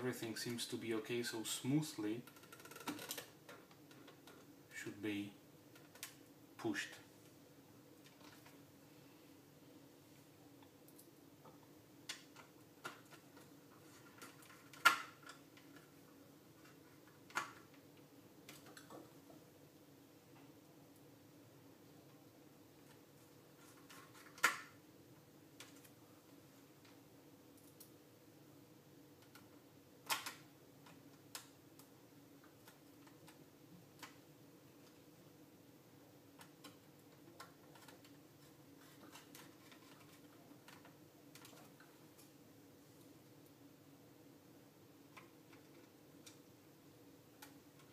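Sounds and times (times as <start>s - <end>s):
low steady hum: 0.0s - 47.9s.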